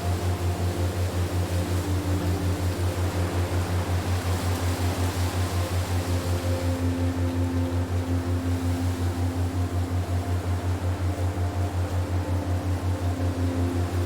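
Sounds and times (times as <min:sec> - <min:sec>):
pulsing low hum: 0:00.0 - 0:14.0
wind-like hiss: 0:00.0 - 0:14.0.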